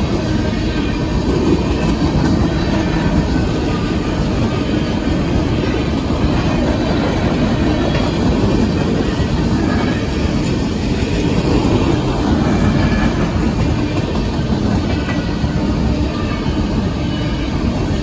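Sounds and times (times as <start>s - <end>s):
steel wheels on rails: 0.0s - 18.0s
train cars rolling past: 0.0s - 18.0s.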